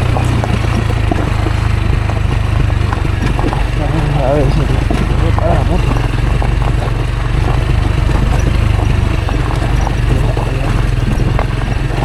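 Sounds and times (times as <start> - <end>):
knocks and rattles: 0.0 - 12.0
motorcycle engine running: 0.0 - 12.0.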